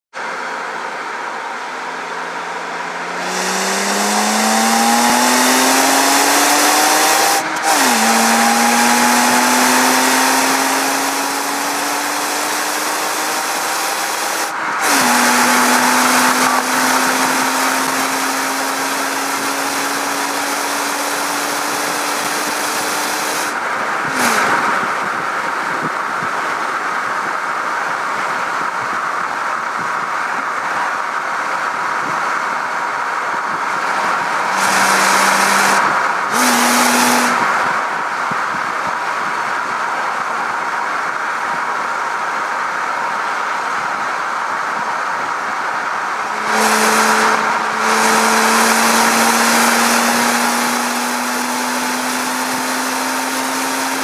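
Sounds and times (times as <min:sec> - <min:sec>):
car engine accelerating: 0:00.1 - 0:54.0
wind and road rush: 0:00.1 - 0:54.0.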